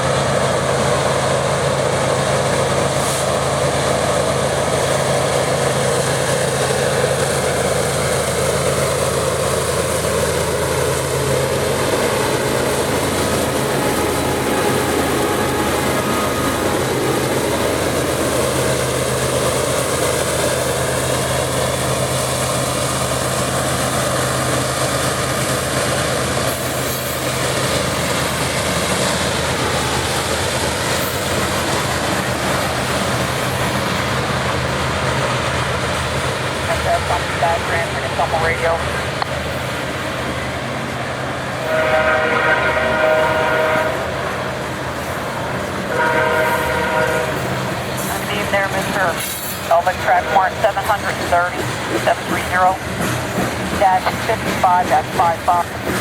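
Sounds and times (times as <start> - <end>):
diesel locomotive engine drone: 0.0 - 56.0
train cars rolling on rails: 0.0 - 56.0.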